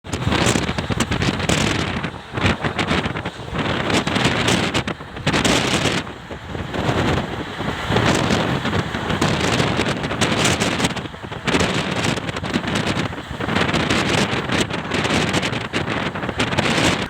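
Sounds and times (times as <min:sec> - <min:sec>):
train rushing at speed: 0:00.0 - 0:17.0
wind buffeting microphone: 0:00.0 - 0:17.0.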